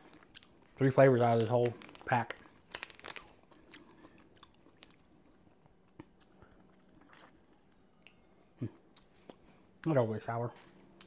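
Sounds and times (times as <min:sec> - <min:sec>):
faint chewing: 0:00.0 - 0:09.6.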